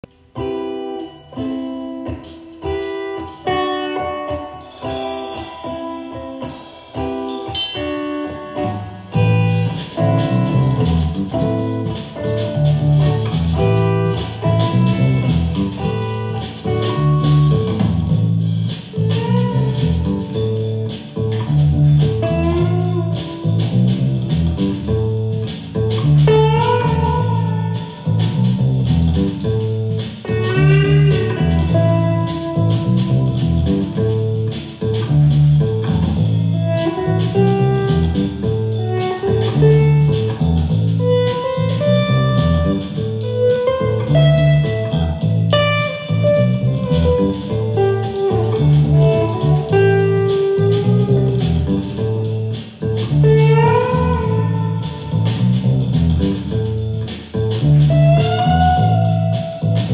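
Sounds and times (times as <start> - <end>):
guitar picking single notes: 0.0 - 59.9
rock band instrumental: 0.1 - 59.9.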